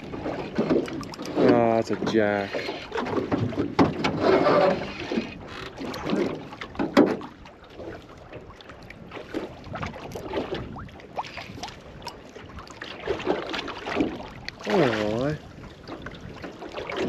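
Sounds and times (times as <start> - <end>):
waves slapping boat hull: 0.0 - 17.0
wind on microphone: 0.0 - 17.0.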